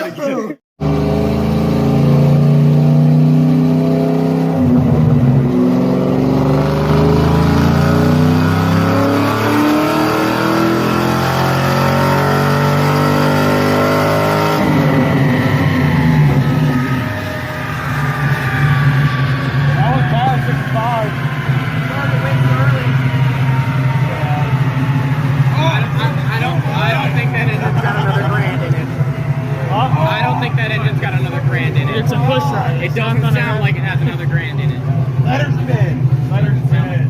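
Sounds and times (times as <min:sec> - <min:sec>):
car engine running: 0:00.8 - 0:37.0.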